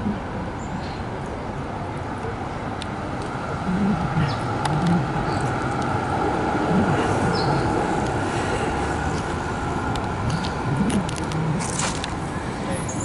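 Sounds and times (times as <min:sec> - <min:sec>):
street traffic: 0:00.0 - 0:13.0
tram wheels and motors rumbling: 0:00.0 - 0:13.0.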